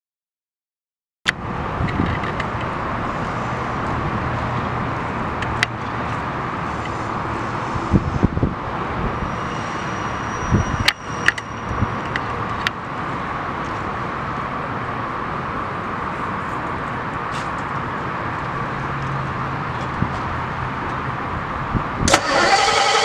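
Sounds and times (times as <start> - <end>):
outdoor background noise: 1.3 - 23.0.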